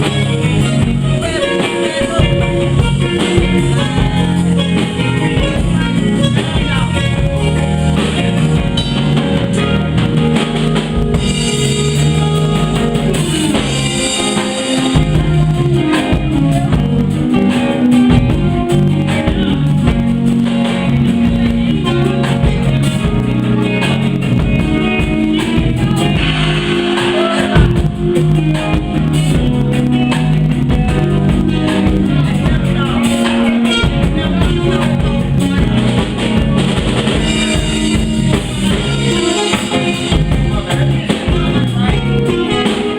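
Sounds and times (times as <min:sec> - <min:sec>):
live band playing: 0:00.0 - 0:42.9.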